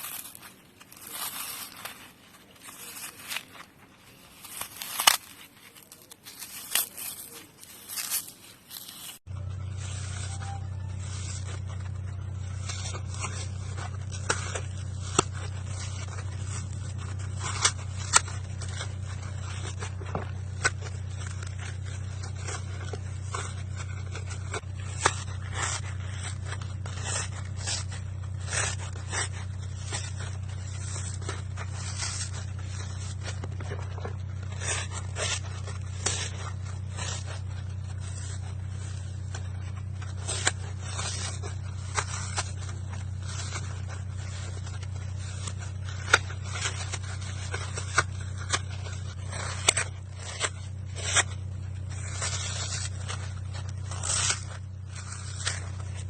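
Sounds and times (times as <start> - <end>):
floral foam crunching: 0.0 - 56.0
low hum: 0.0 - 56.0.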